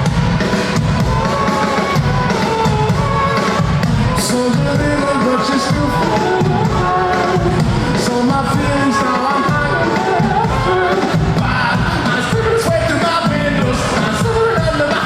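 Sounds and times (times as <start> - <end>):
bass guitar: 0.0 - 15.0
drums: 0.0 - 15.0
person singing lead vocal: 0.0 - 15.0.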